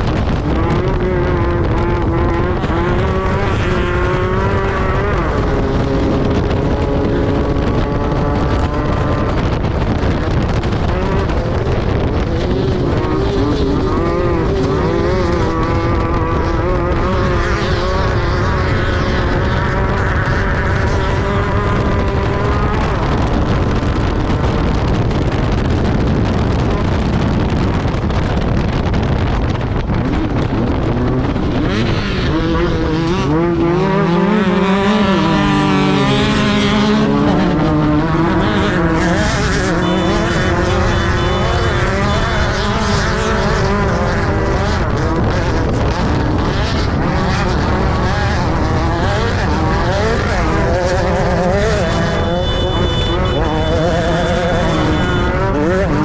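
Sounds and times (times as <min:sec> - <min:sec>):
buggy engine revving: 0:00.0 - 0:56.0
heavy noise of car at speed: 0:00.0 - 0:56.0.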